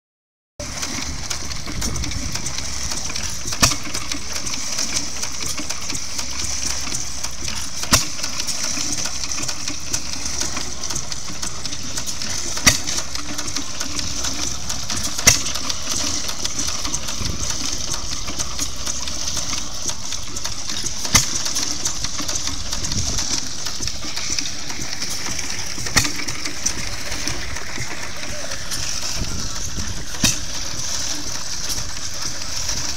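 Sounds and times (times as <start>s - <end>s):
engine clatter: 0.6s - 32.9s.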